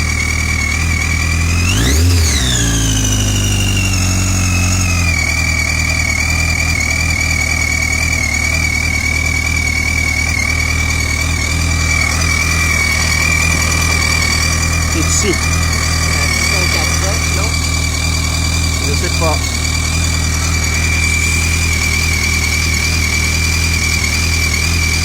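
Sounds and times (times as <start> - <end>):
engine idling and revving: 0.0 - 25.0
high-pitched whine: 0.0 - 25.0.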